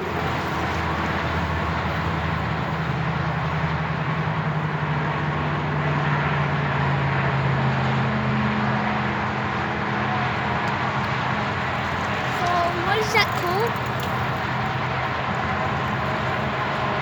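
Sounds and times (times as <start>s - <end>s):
continuous rushing noise: 0.0s - 17.0s
vehicle engine running: 0.0s - 17.0s.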